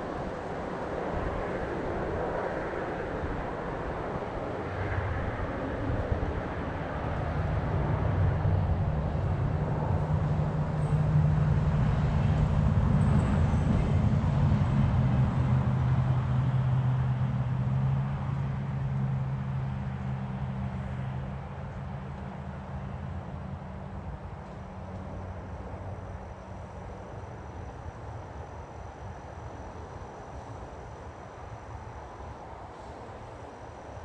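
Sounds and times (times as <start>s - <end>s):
distant engine drone: 0.0s - 34.0s
rough outdoor background noise: 0.0s - 34.0s.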